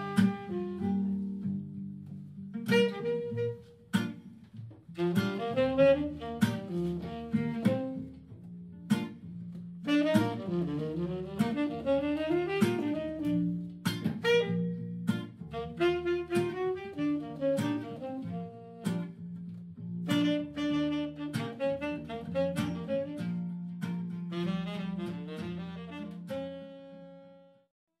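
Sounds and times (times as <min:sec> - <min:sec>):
instrumental music: 0:00.0 - 0:27.7.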